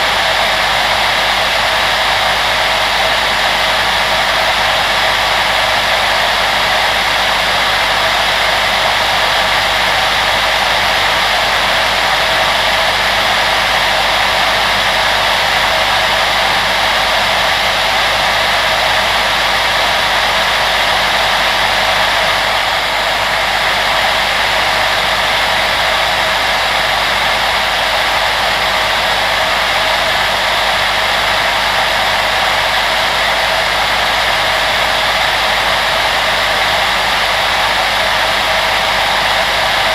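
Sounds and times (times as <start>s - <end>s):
appliance fan rushing: 0.0s - 39.9s.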